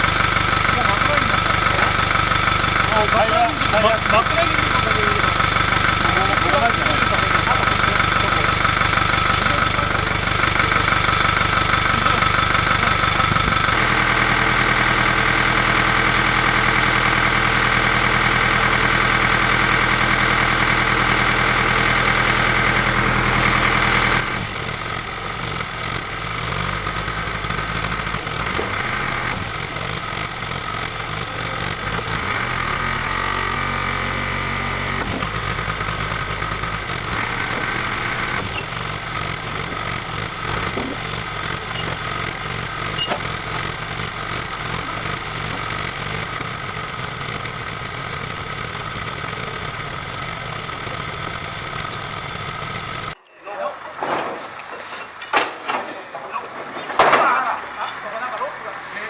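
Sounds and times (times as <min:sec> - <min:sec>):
engine running: 0:00.0 - 0:53.2, 0:57.3 - 0:59.0.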